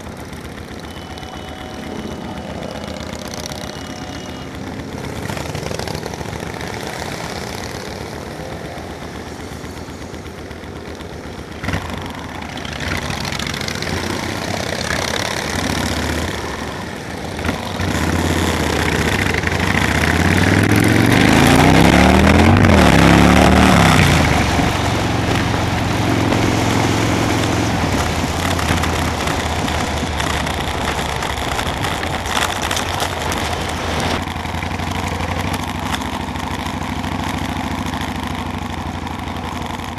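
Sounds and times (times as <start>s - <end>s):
motorcycle engines running: 0.0s - 39.9s
steady rushing noise: 0.0s - 39.9s.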